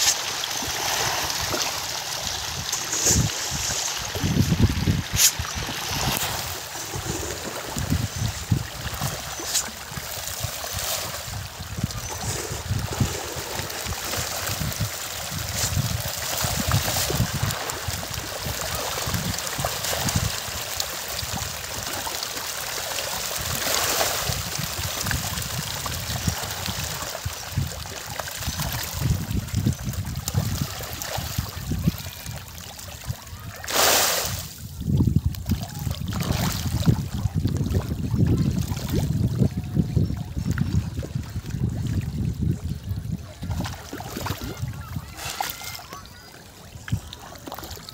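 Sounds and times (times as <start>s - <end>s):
fish splashing and thrashing water: 0.0s - 47.9s
rush of water: 0.0s - 47.9s.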